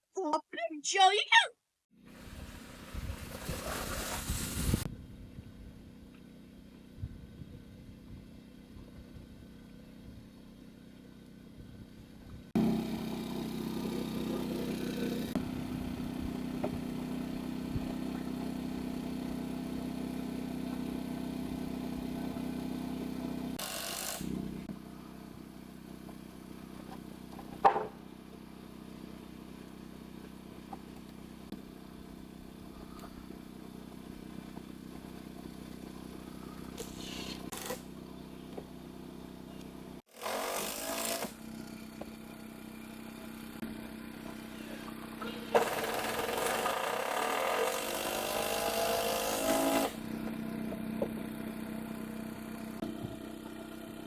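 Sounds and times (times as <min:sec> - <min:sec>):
motor running steadily: 0:02.0 - 0:54.0.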